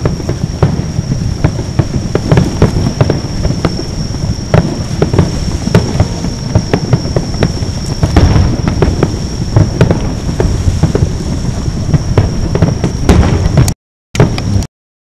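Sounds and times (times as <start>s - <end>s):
fireworks bursting: 0.0s - 14.7s
low rumble: 0.0s - 14.7s.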